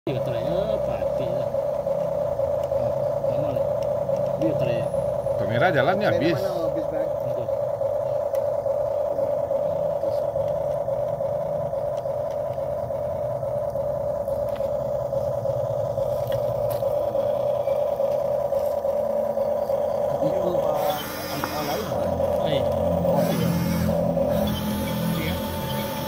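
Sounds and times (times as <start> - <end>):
electric motor and gearbox whine: 0.1 - 26.0.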